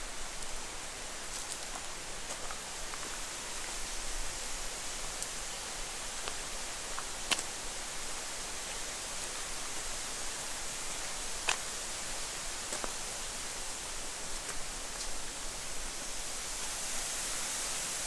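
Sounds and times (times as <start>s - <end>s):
rainforest ambience hiss: 0.0s - 18.0s.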